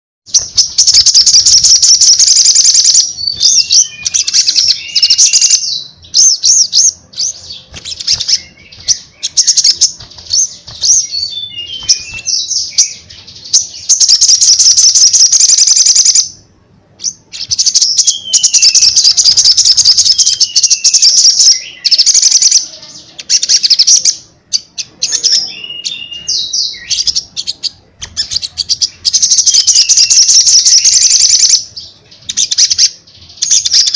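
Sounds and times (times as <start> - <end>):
sunbird singing trills: 0.3 - 16.4, 17.0 - 33.9.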